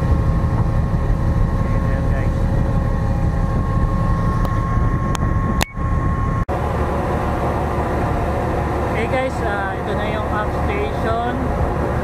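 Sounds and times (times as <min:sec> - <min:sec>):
ship engine low rumble: 0:00.0 - 0:12.0.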